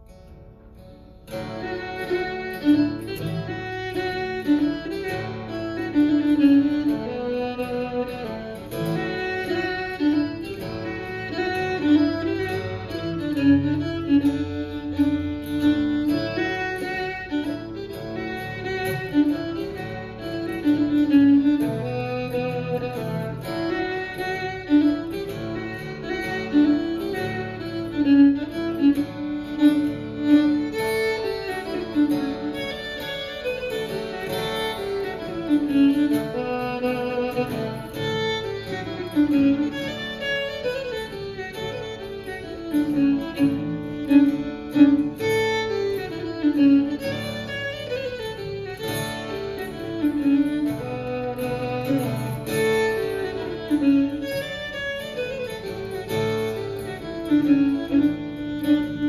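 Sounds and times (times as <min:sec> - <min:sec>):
fiddle playing folk melody: 0:00.0 - 0:59.0.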